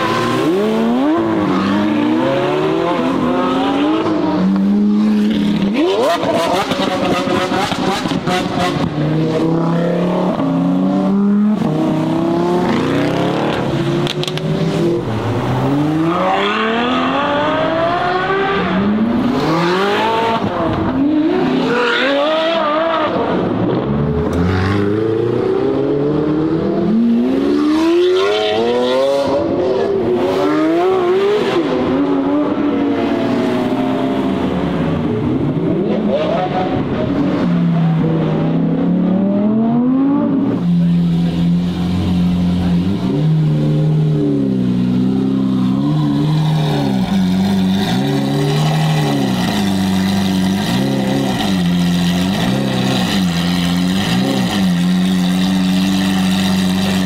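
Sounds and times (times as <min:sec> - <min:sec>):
sports cars revving and accelerating: 0:00.0 - 0:57.0.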